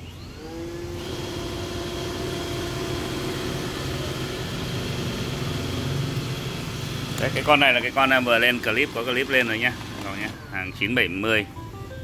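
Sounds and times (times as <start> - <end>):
robot vacuum motor whine: 0.3 - 10.4.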